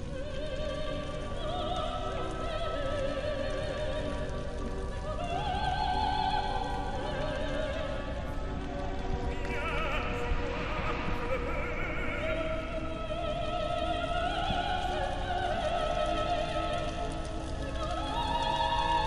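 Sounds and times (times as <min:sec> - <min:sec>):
operatic singing: 0:00.0 - 0:19.0.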